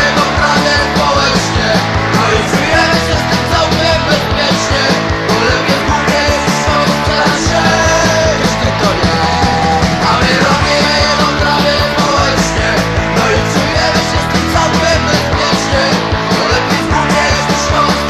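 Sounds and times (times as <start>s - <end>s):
punk rock band playing: 0.0s - 18.0s.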